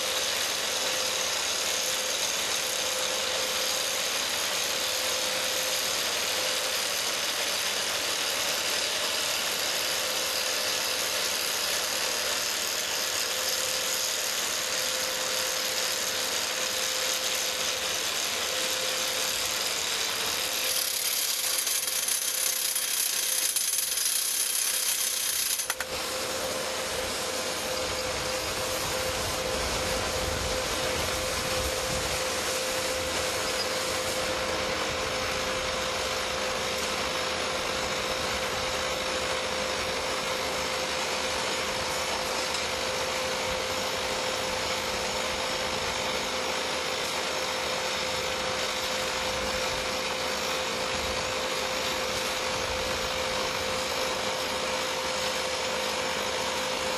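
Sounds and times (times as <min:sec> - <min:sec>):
drill rig running with whine: 0:00.0 - 0:56.9
hammer drilling noise: 0:00.0 - 0:56.9.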